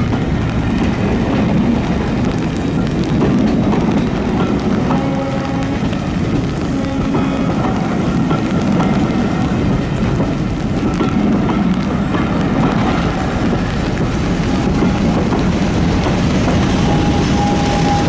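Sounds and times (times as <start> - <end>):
diesel train rumbling: 0.0 - 18.0.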